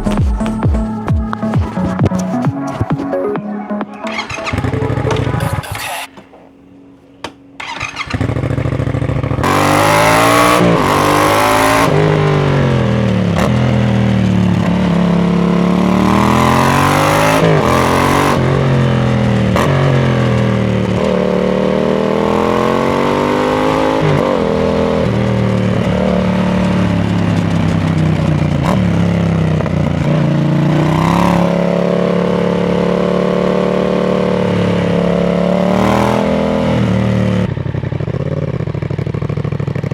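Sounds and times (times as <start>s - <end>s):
motorcycle engine revving: 0.0s - 3.0s, 3.8s - 39.9s.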